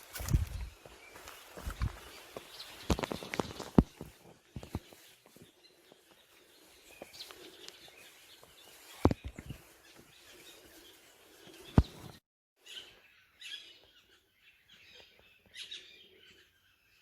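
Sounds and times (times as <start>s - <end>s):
faint bird chirps: 0.4s - 17.0s.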